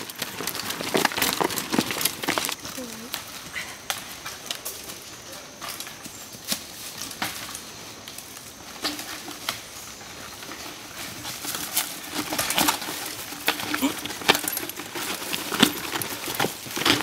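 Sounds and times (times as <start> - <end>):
bikes knocking over rock: 0.0 - 17.0.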